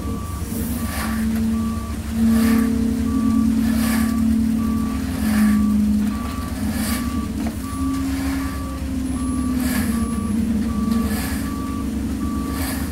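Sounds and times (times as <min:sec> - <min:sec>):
backup alarm beeping: 0:00.0 - 0:12.9
truck engine rumbling: 0:00.0 - 0:12.9.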